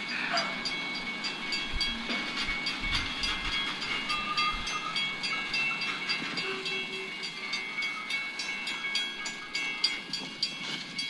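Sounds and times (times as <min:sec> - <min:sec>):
crossing bell ringing: 0:00.0 - 0:11.0
freight train cars rolling over rails: 0:00.0 - 0:11.0.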